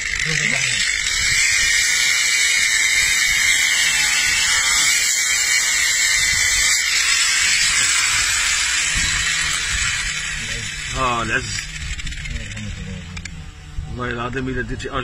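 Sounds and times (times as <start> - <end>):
angle grinder cutting bone: 0.0 - 15.0.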